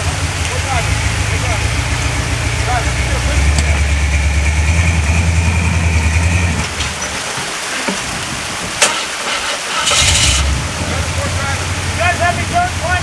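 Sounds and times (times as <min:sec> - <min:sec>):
off-road vehicle engine running: 0:00.0 - 0:13.0
hiss burst: 0:00.1 - 0:12.4.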